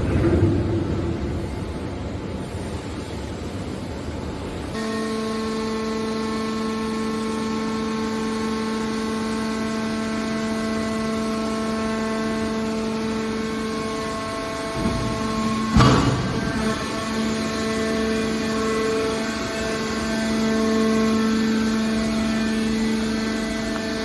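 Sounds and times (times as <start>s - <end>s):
hydraulic power unit rumbling: 0.0s - 24.0s
steady pitched hum: 0.0s - 24.0s.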